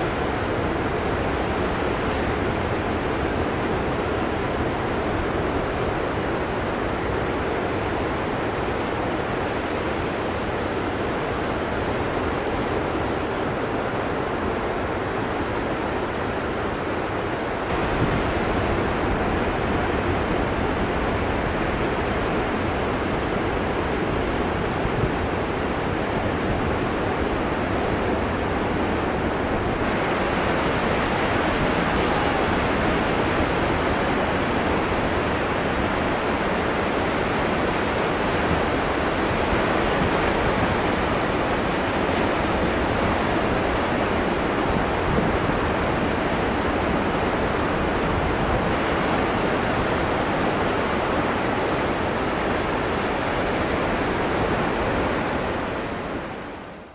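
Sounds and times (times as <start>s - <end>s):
waves breaking: 0.0s - 56.9s.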